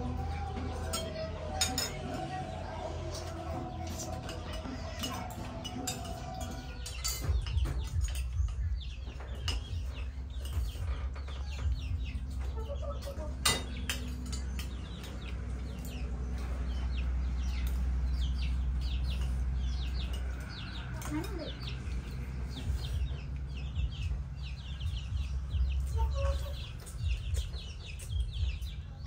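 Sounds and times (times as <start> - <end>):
utensils clicking and clinking: 0.0 - 23.6
chicks peeping: 0.0 - 29.0.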